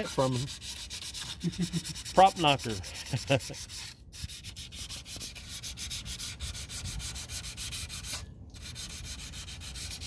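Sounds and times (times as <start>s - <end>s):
scrubbing a boat propeller: 0.0s - 10.0s.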